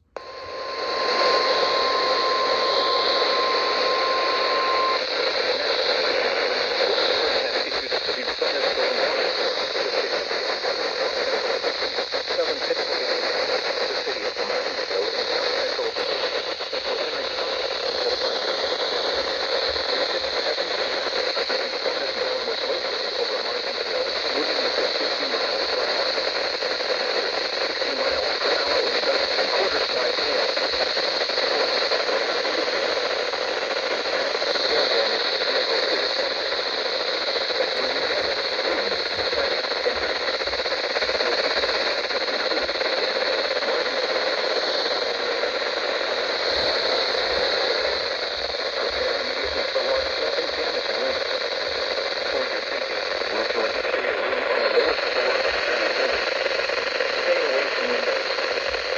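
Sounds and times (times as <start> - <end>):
radio static hiss: 0.0 - 58.9.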